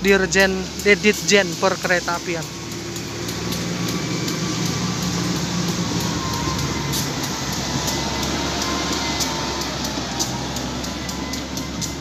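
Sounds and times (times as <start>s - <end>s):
continuous rushing noise: 0.0s - 12.0s
diesel engine hum: 0.0s - 12.0s.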